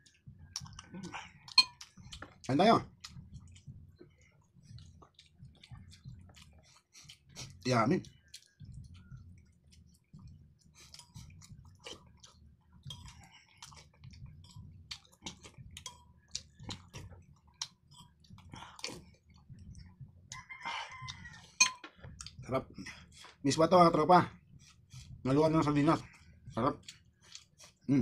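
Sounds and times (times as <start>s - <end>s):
mouth clicks and lip smacks: 0.0s - 23.4s
wet chewing: 0.0s - 23.5s, 24.4s - 28.0s.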